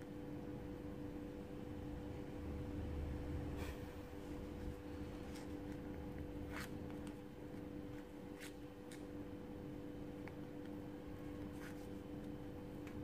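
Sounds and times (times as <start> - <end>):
low hum: 0.3 - 13.0.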